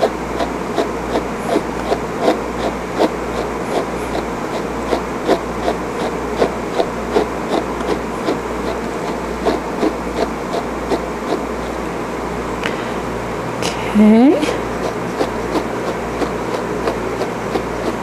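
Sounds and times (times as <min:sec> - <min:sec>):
brush rasping through fur: 0:00.0 - 0:11.9, 0:14.0 - 0:18.0
low hum: 0:00.0 - 0:18.0.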